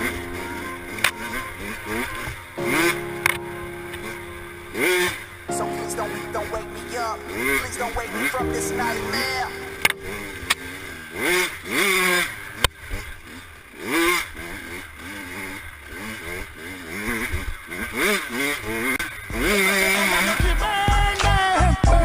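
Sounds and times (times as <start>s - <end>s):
dirt bike engine revving: 0.0s - 21.1s.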